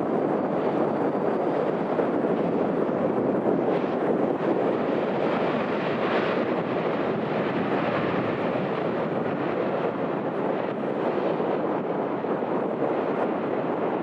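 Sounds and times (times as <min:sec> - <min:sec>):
jet airliner passing: 0:00.0 - 0:14.0
wind on microphone: 0:00.0 - 0:14.0.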